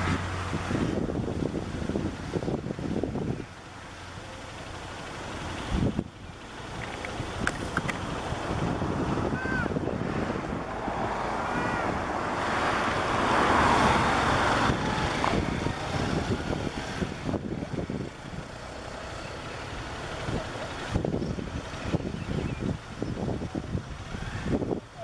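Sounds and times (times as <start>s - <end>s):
wind buffeting microphone: 0.0s - 3.8s, 5.4s - 25.0s.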